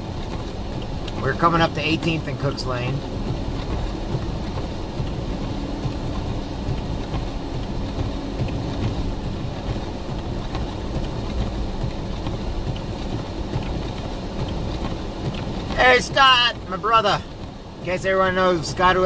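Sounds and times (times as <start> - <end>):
vehicle driving on snow: 0.0 - 19.0.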